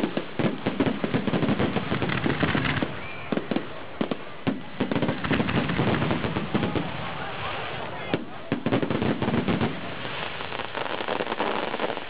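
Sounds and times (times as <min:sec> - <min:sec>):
continuous crackling hiss: 0:00.0 - 0:12.0
fireworks bangs: 0:00.0 - 0:12.0.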